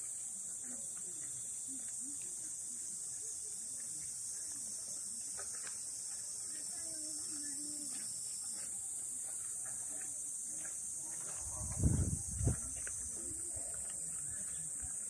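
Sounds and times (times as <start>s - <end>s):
insects singing: 0.3s - 15.0s.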